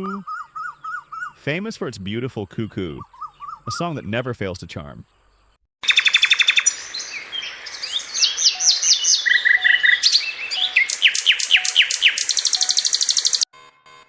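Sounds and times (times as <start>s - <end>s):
nightingale singing: 0.0s - 13.5s.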